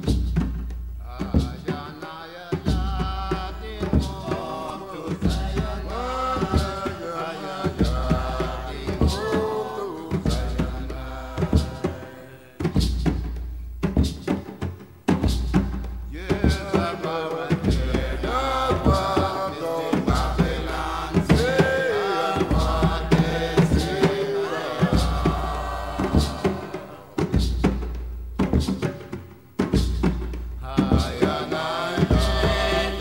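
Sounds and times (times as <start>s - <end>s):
hand drums: 0.0s - 33.0s
voice singing a chant: 1.0s - 13.2s, 15.3s - 28.9s, 30.6s - 33.0s.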